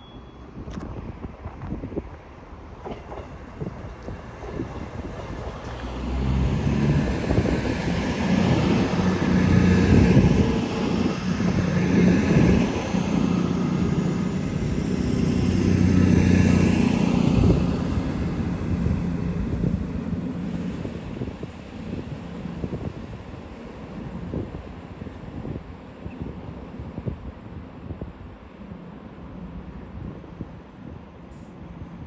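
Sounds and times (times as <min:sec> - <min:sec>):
train engine drone: 0:00.0 - 0:32.0.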